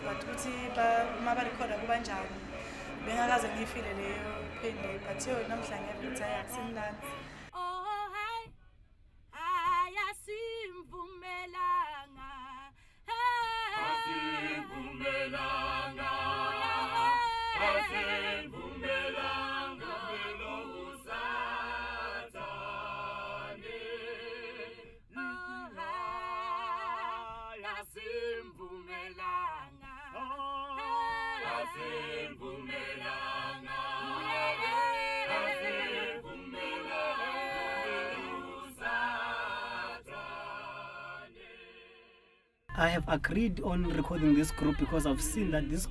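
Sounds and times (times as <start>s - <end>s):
choir singing a cappella: 0.0s - 7.6s, 11.4s - 45.9s.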